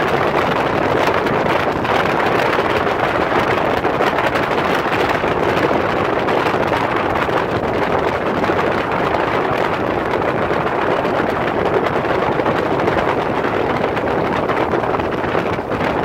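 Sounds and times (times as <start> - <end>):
wind rushing: 0.0 - 16.0.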